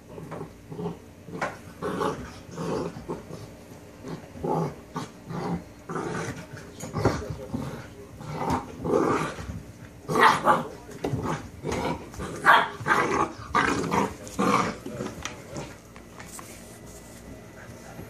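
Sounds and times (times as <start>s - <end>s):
puppies growling: 0.0s - 15.9s.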